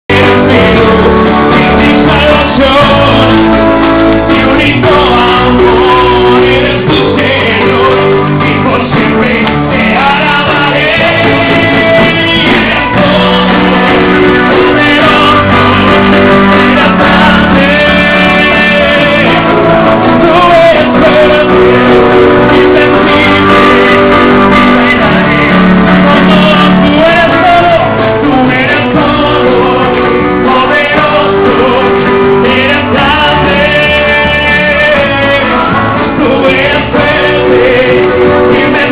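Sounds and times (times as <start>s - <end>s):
loud music with guitar: 0.0s - 38.9s
crowd singing a worship song: 0.1s - 38.9s.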